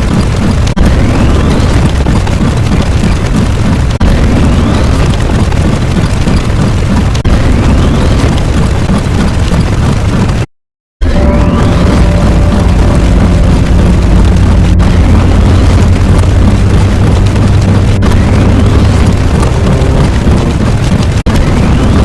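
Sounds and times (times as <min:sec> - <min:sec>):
heavy low rumbling: 0:00.0 - 0:09.3, 0:11.0 - 0:22.0.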